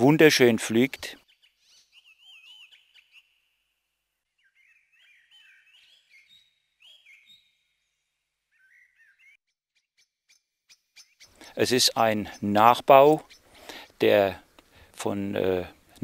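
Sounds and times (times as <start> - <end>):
faint warbling bird song: 0.0 - 14.5.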